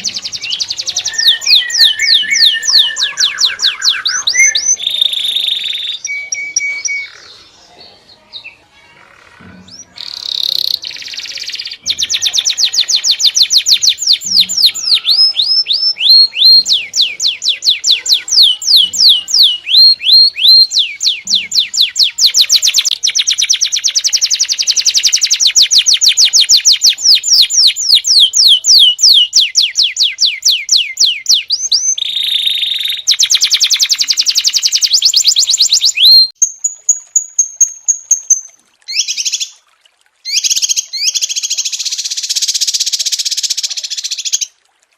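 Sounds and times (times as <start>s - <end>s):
songbirds singing fast trills: 0.0s - 39.6s.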